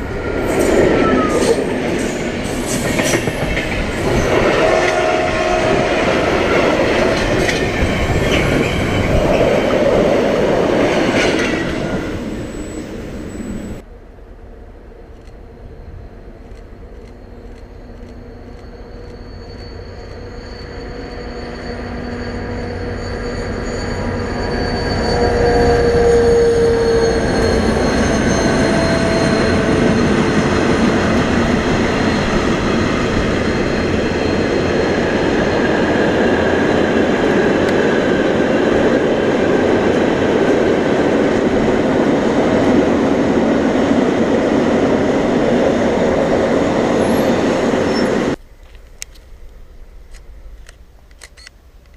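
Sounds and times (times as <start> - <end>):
diesel locomotive passing: 0.0 - 48.4.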